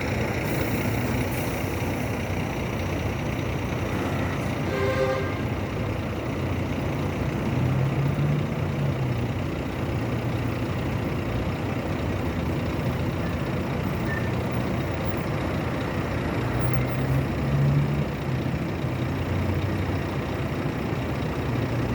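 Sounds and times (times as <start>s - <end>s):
diesel bus engine running: 0.0s - 21.9s.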